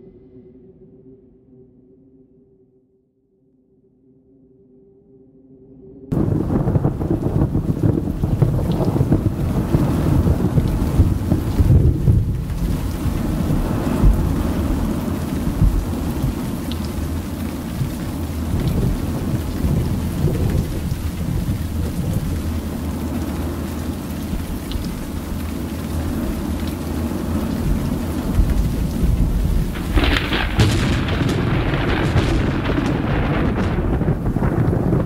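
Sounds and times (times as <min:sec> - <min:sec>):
low rolling thunder: 0:06.1 - 0:35.0
rain: 0:06.1 - 0:35.0
sharp crackling thunderclap: 0:06.1 - 0:35.0.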